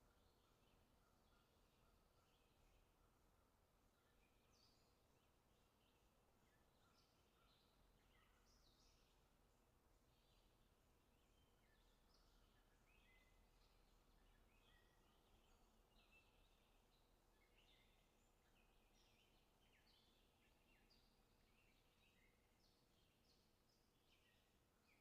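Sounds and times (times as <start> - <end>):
faint bird chirping: 0.0 - 25.0.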